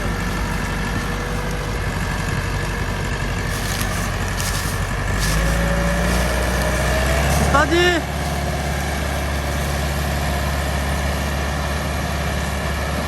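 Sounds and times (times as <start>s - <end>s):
tractor diesel engine running hard: 0.0s - 13.0s.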